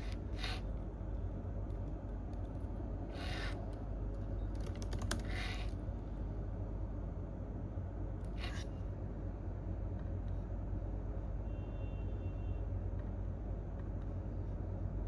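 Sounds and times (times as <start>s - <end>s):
low room rumble: 0.0s - 15.0s.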